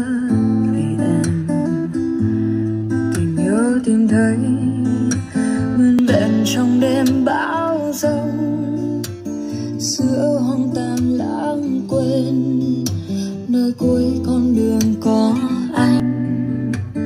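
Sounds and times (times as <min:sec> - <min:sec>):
person singing: 0:00.0 - 0:02.2, 0:03.0 - 0:17.0
strummed acoustic guitar: 0:00.0 - 0:17.0.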